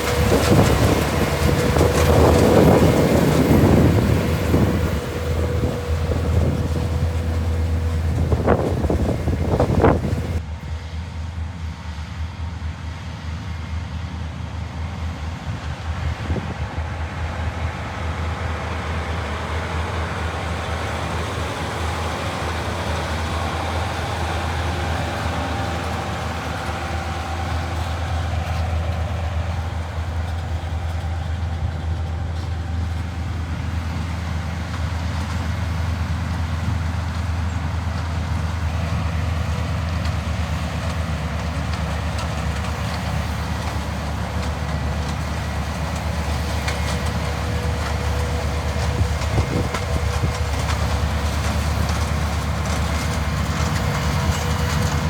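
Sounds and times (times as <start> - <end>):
harvest machinery engine hum: 0.0 - 55.0.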